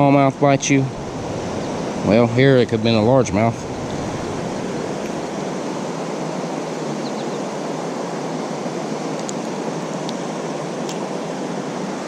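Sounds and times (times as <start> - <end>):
river rapids and waterfall rushing: 0.1 - 12.0.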